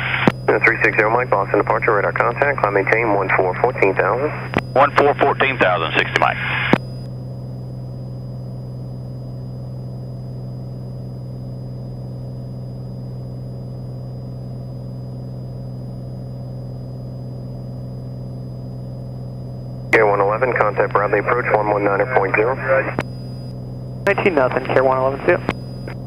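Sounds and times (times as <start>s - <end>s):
airplane engine drone in cabin: 0.0s - 26.0s.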